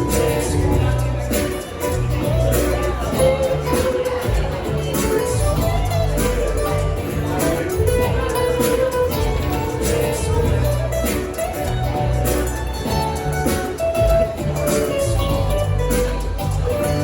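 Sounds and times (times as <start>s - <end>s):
melodic lead line: 0.0s - 17.0s
sustained bass notes: 0.0s - 17.0s.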